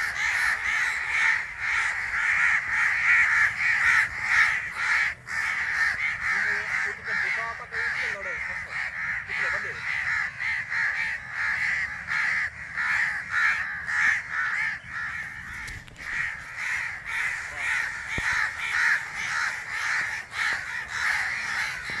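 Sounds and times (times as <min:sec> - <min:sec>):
crows cawing: 0:00.0 - 0:22.0.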